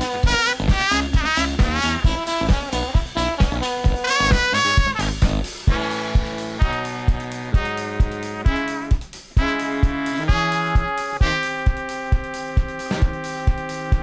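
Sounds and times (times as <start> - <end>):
brass band chords: 0.0 - 14.0
drum kit steady beat: 0.0 - 14.0.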